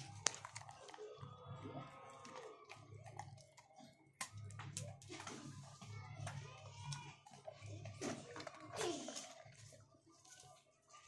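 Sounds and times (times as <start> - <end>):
dog crunching a biscuit: 0.0 - 11.0.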